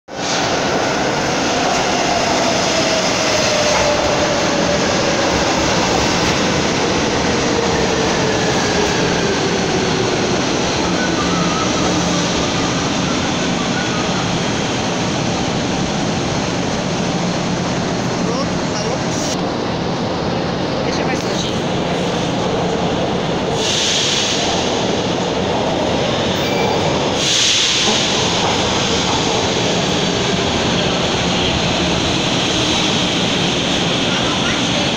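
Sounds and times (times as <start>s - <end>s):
train wheels rushing on rail: 0.1s - 34.9s.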